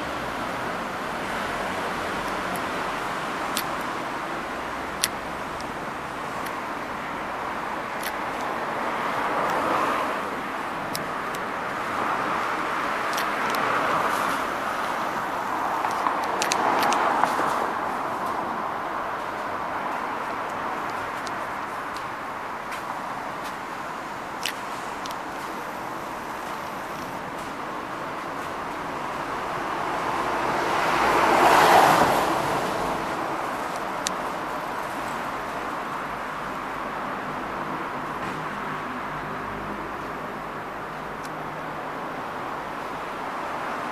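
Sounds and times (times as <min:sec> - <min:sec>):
cars driving past: 0:00.0 - 0:43.9
traffic hum: 0:00.0 - 0:43.9.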